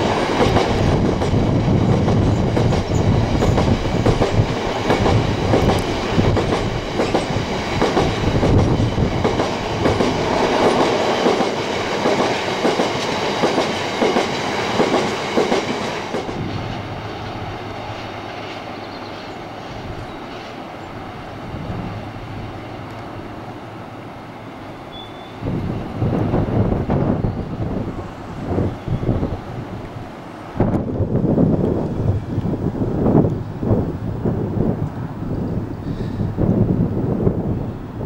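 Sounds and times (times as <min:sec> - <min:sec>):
freight train passing: 0:00.0 - 0:38.0.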